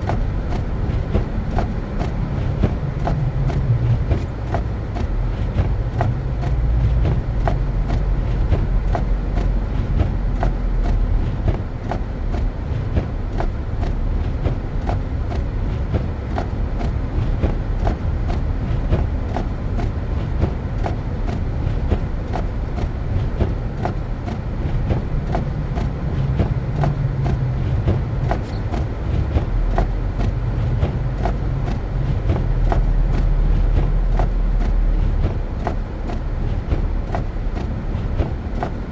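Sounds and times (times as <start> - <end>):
tyres and engine rumbling: 0.0 - 38.9.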